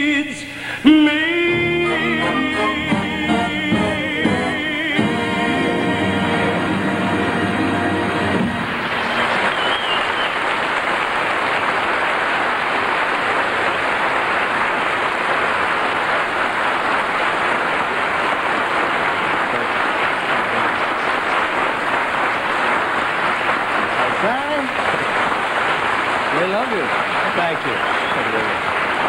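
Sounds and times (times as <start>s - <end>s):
audience applauding: 1.4s - 29.0s.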